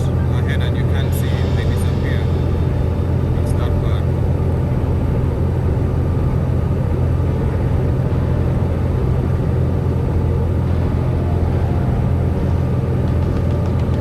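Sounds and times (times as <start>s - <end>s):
diesel truck engine droning: 0.0s - 14.0s
road noise: 0.0s - 14.0s.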